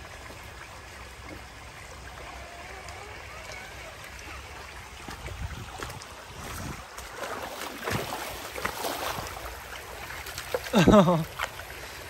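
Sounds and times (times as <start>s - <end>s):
stream running: 0.0s - 12.0s
water splashing and sloshing: 0.0s - 12.0s.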